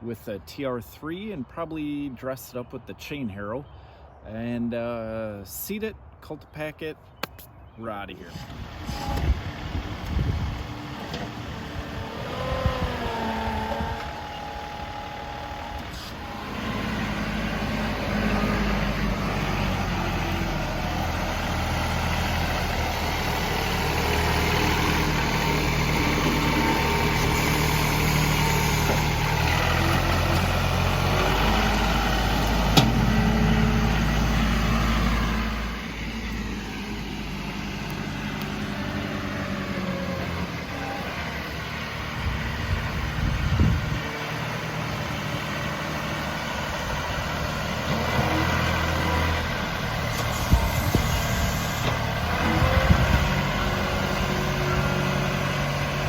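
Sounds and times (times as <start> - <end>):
tractor diesel engine running: 8.2 - 56.0.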